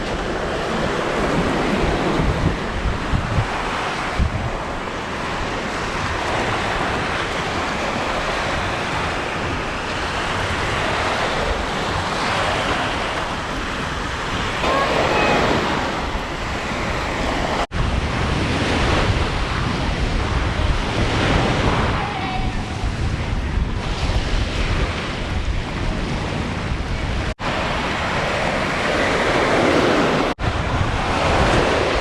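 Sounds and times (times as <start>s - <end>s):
surf: 0.0s - 32.0s
wind: 0.0s - 32.0s
wind buffeting microphone: 0.0s - 32.0s.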